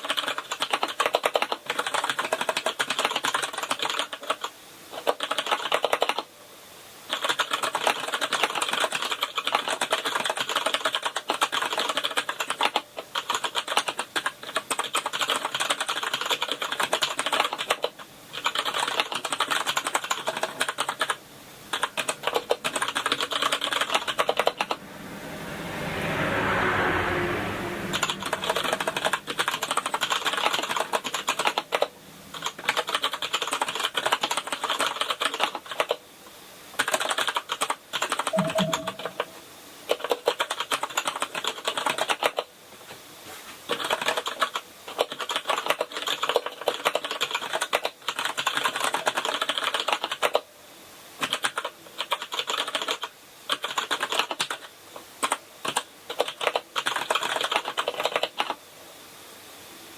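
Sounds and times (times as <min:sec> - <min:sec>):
fast typing on keyboard: 0:00.0 - 0:06.3, 0:07.1 - 0:24.5, 0:29.0 - 0:36.0, 0:36.8 - 0:38.3, 0:39.9 - 0:42.5, 0:43.7 - 0:50.4, 0:51.2 - 0:58.6.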